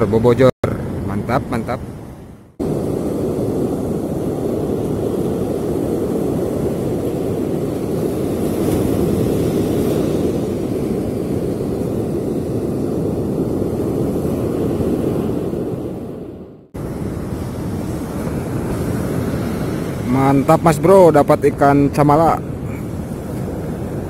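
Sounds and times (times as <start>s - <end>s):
ocean surf rushing: 0.0s - 24.0s
wind on microphone: 0.0s - 24.0s.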